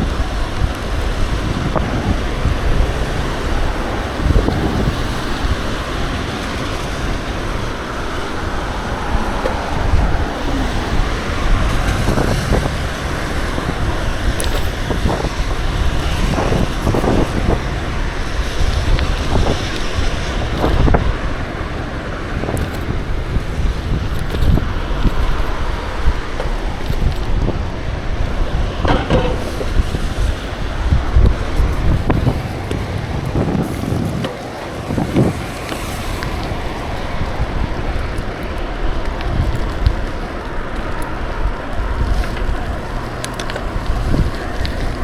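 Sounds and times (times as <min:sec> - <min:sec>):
low road rumble: 0:00.0 - 0:45.0
wind rushing over microphone: 0:00.0 - 0:45.0.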